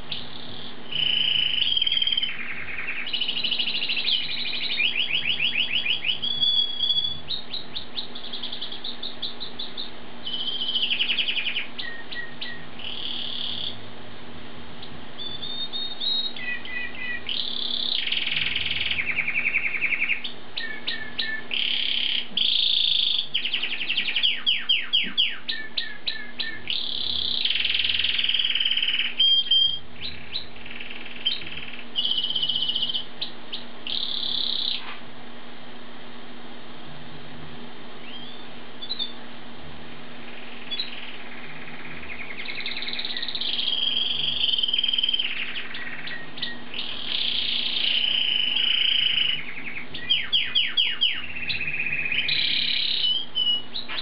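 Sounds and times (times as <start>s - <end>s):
starling singing: 0.0s - 13.9s, 14.8s - 34.9s, 38.0s - 39.3s, 40.1s - 54.0s.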